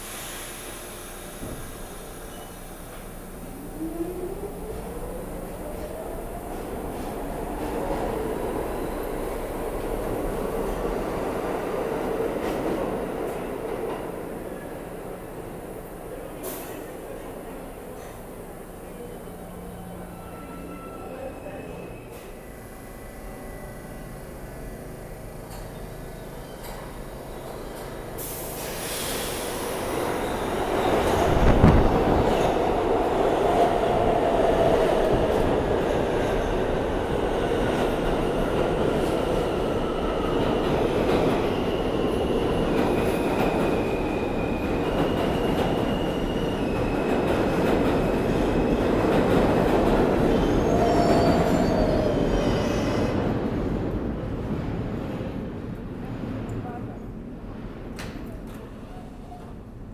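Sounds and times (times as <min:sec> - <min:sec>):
subway train rumble: 0:00.0 - 0:59.9.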